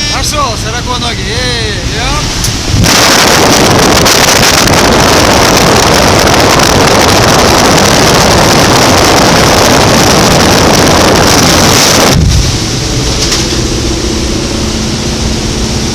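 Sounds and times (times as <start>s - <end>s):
faint steady drone: 0.0s - 15.9s
wind rushing over microphone: 0.0s - 15.9s.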